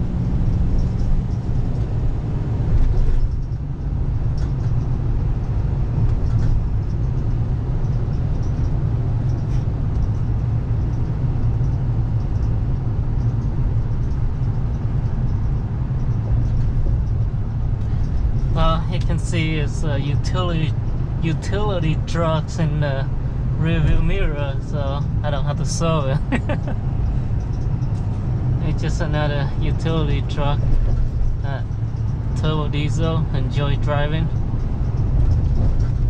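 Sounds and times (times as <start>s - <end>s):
diesel truck engine rumble: 0.0s - 36.0s
road noise: 0.0s - 36.0s.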